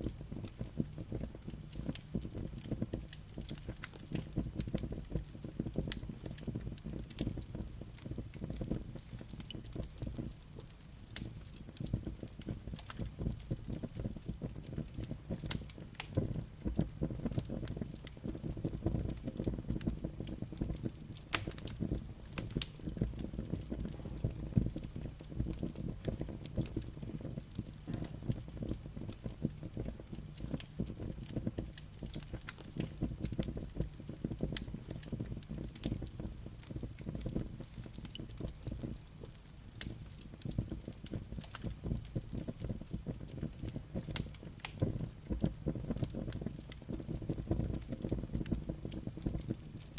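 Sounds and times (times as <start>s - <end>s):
fire crackling and popping: 0.0s - 49.9s
low rumble of flames: 0.0s - 49.9s.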